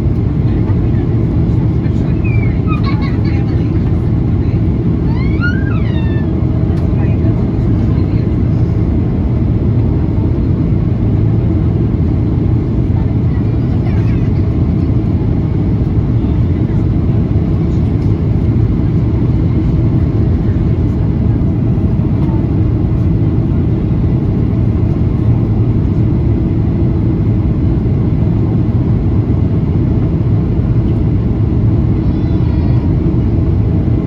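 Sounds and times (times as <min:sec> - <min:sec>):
airplane engine drone: 0:00.0 - 0:34.0.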